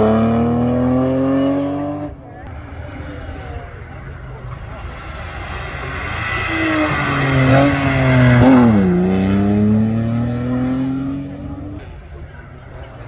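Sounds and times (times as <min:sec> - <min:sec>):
rally car engine passing at speed: 0:00.0 - 0:11.8.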